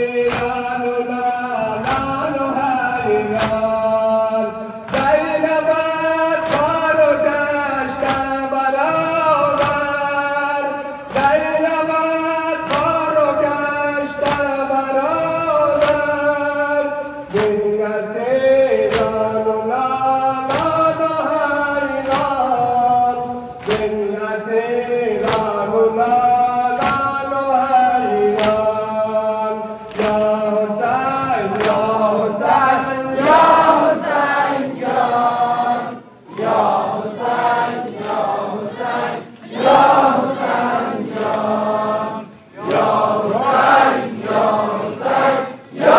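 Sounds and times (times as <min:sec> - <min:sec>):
men chanting in unison: 0:00.0 - 0:45.9.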